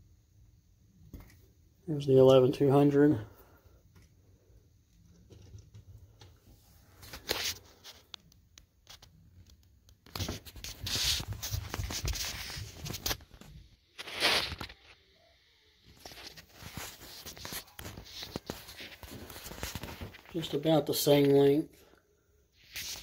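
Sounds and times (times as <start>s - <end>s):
rustling and scraping handling noise: 1.0s - 15.1s, 15.8s - 23.0s.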